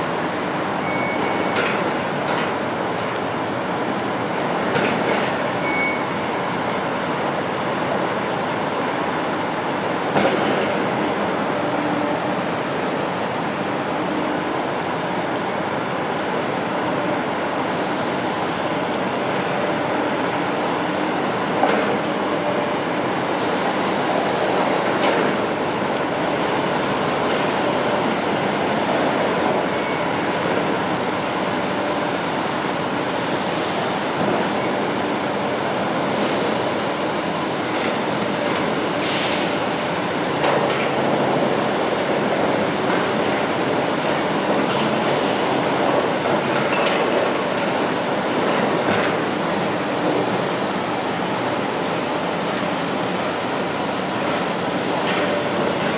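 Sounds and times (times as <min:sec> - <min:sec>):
construction machinery diesel engine: 0:00.0 - 0:55.9.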